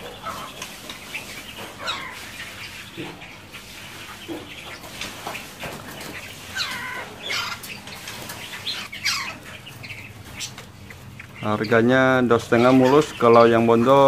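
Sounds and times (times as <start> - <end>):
birds calling with falling pitch: 0.0 - 14.0.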